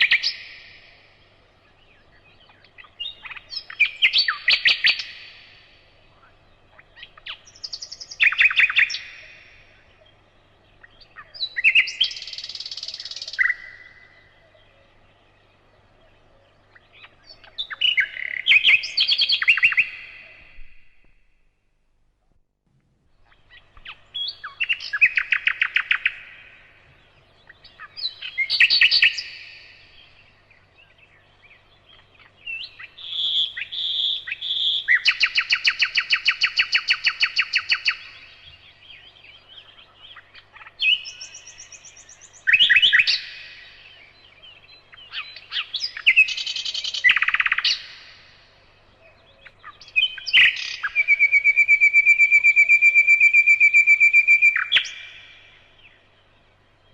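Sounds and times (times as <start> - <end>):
bird chirping and trilling: 0.0 - 21.3, 23.1 - 56.9.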